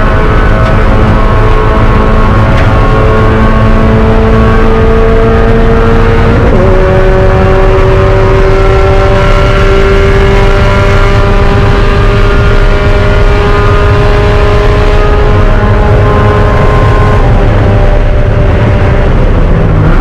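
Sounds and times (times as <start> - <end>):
race car engine accelerating: 0.0 - 20.0
road and wind rumble: 0.0 - 20.0.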